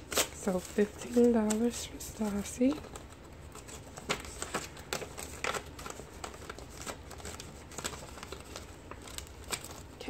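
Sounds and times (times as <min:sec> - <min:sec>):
paper banknotes rustling: 0:00.0 - 0:10.0
plastic pouch crackling: 0:00.0 - 0:10.0.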